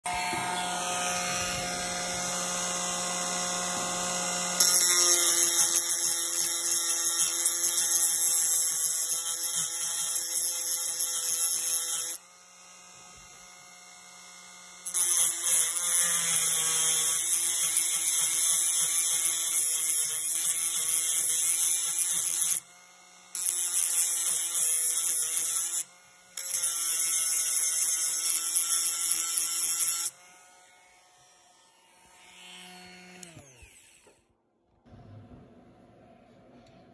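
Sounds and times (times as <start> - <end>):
rotary tool motor whining: 0.1 - 34.3.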